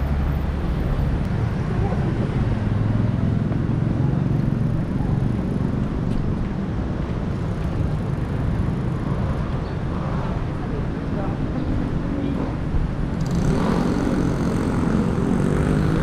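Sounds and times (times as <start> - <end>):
city traffic: 0.0 - 16.0.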